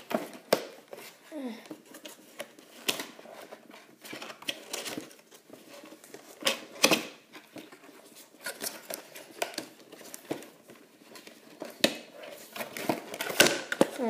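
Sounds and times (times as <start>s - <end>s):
packaging clicks and rustles: 0.0s - 14.0s.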